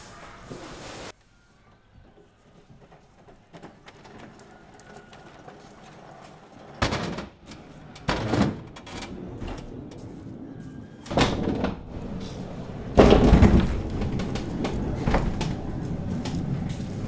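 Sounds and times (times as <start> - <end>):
crates and wheels rattling: 1.4 - 17.0
pallet truck pulled across concrete: 1.5 - 17.0.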